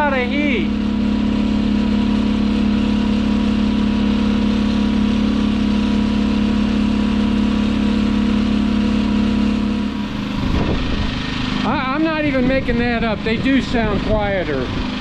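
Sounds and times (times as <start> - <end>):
generators humming: 0.0 - 15.0.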